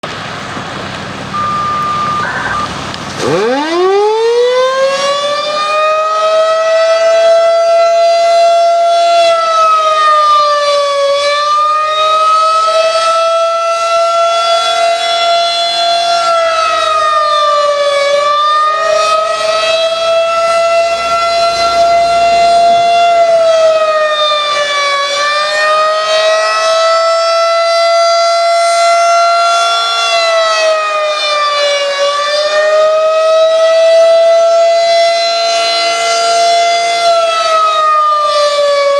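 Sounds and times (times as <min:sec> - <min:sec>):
civil defense siren steady tone: 0:00.0 - 0:38.9.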